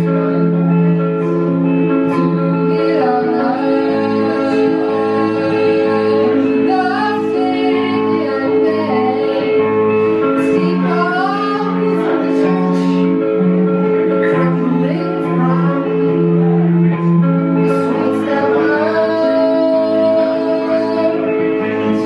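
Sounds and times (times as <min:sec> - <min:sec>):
held accompanying chords: 0:00.0 - 0:22.0
woman singing: 0:00.0 - 0:22.0.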